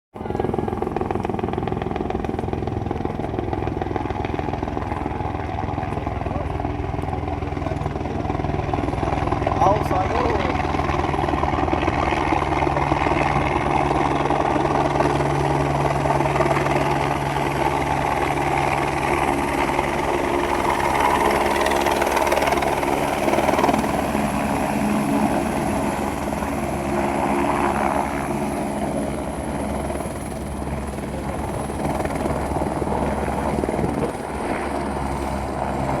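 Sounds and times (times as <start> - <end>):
helicopter engine drone: 0.2 - 36.0
helicopter rotor chopping: 0.2 - 36.0.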